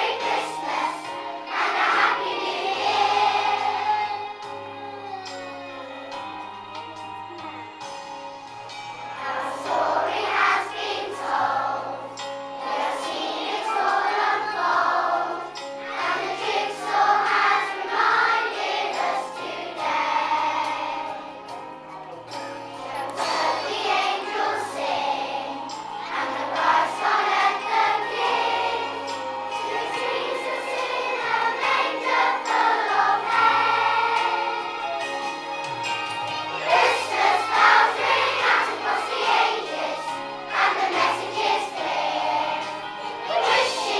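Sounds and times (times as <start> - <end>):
children's choir singing: 0.0 - 43.9
instrumental accompaniment: 0.0 - 43.9.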